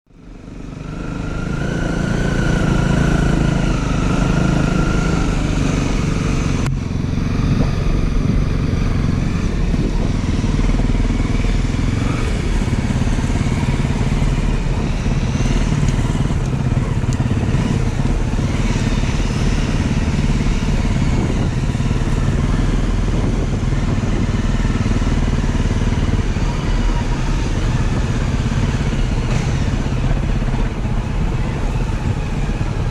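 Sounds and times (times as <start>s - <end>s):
motorcycle engine running: 0.1s - 32.9s.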